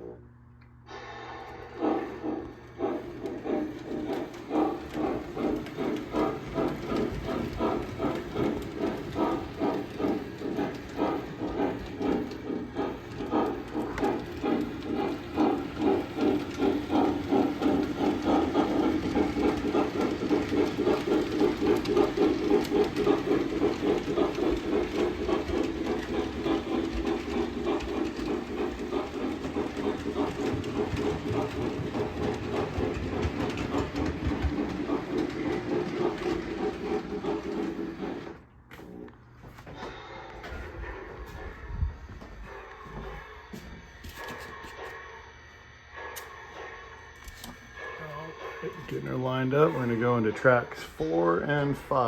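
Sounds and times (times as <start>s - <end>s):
model steam locomotive chuffing: 0.9s - 39.2s, 42.5s - 52.0s.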